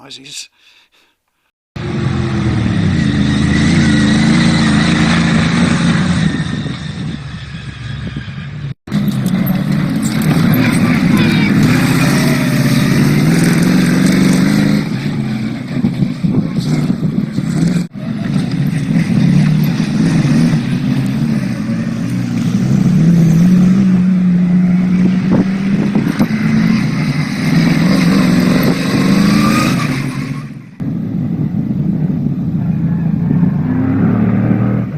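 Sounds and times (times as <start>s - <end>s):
buggy engine revving: 1.8s - 34.9s.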